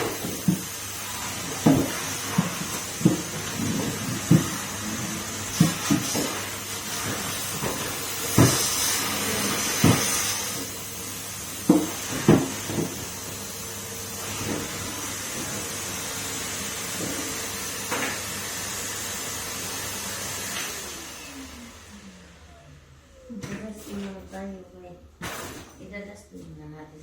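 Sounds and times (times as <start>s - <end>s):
vacuum cleaner running: 0.0s - 26.6s.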